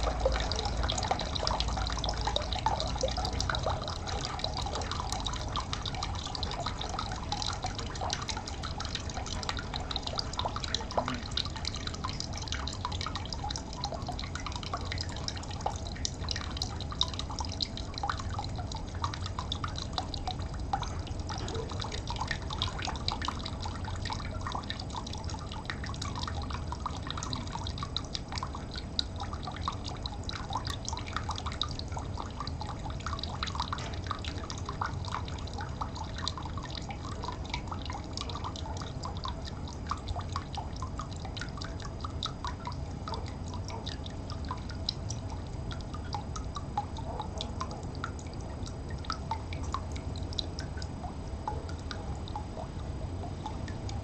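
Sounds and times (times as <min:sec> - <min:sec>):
low steady rumble: 0:00.0 - 0:54.0
water trickling and dripping: 0:00.0 - 0:54.0.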